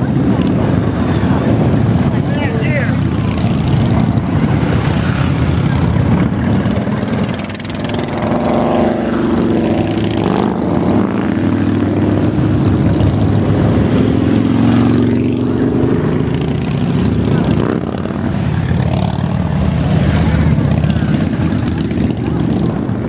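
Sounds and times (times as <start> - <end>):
motorcycles riding past: 0.0 - 23.0.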